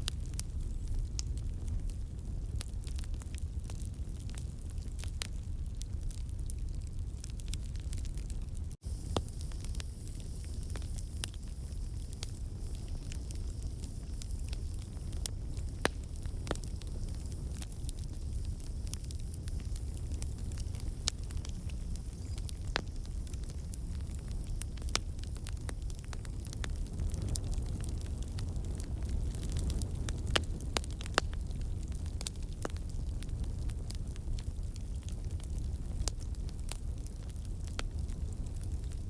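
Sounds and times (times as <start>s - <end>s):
low rumble of flames: 0.0s - 39.0s
wood crackling and popping: 0.0s - 39.0s.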